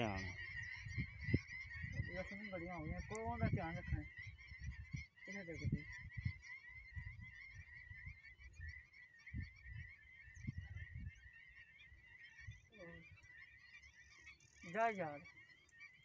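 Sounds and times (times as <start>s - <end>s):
wind rumbling on microphone: 0.0s - 13.2s.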